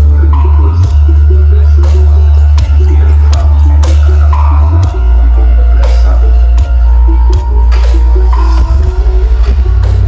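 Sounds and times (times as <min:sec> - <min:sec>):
deep steady bass: 0:00.0 - 0:10.0
loud music from sound system: 0:00.0 - 0:10.0.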